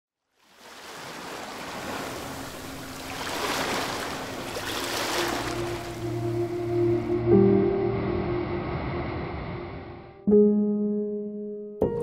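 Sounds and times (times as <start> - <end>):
sea waves washing: 0.4 - 10.3.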